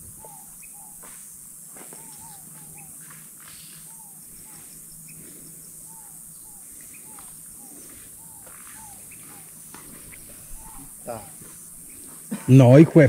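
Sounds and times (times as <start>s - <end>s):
bird chirping: 0.0s - 13.0s
insect drone: 0.0s - 13.0s.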